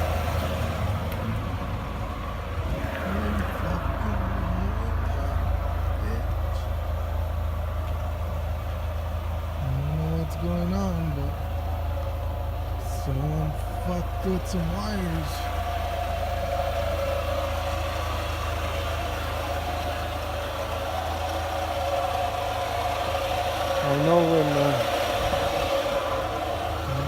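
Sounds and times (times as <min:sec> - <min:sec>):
pickup engine low drone: 0:00.0 - 0:27.0.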